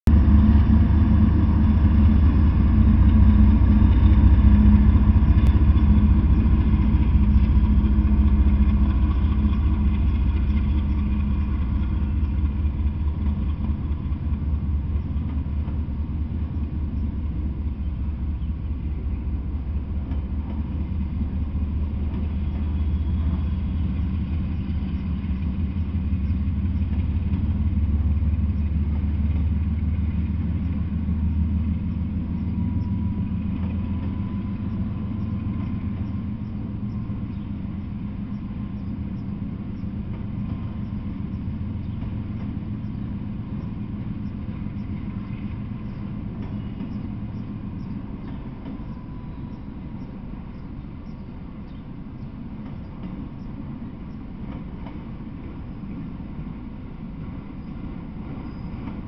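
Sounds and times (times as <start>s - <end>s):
diesel locomotive engine hum: 0.0s - 59.0s
train wheels rumbling on rail: 0.0s - 59.0s.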